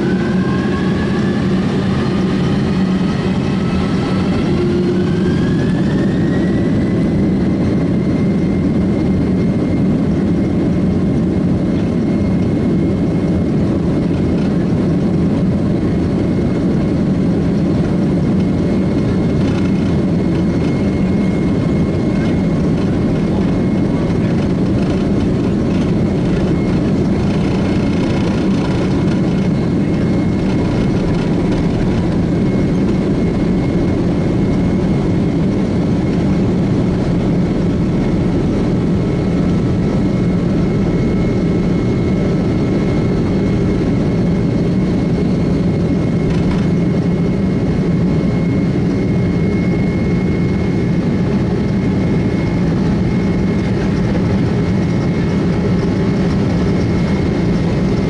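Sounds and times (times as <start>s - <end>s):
jet engine low rumble: 0.0s - 58.0s
jet engine whine: 0.0s - 58.0s.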